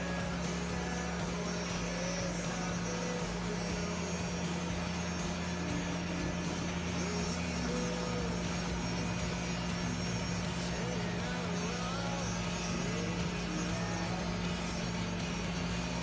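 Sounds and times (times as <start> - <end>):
electric clippers running: 0.0 - 16.0.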